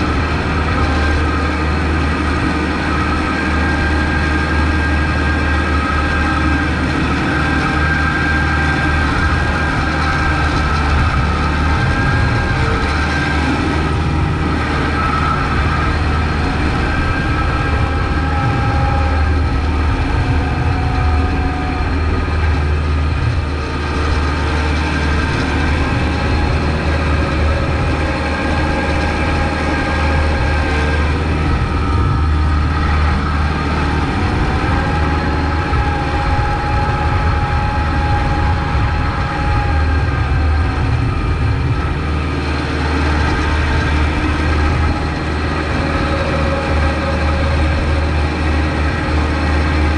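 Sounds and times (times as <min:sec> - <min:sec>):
tractor diesel engine under load: 0:00.0 - 0:49.9.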